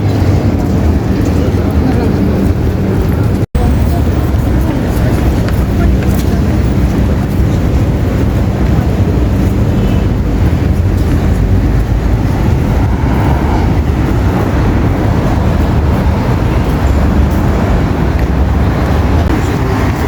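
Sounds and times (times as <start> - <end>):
moving vehicle low rumble: 0.0 - 20.0.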